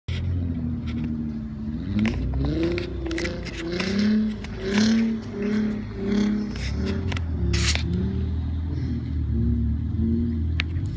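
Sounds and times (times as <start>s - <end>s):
car engine revving: 0.1s - 10.9s.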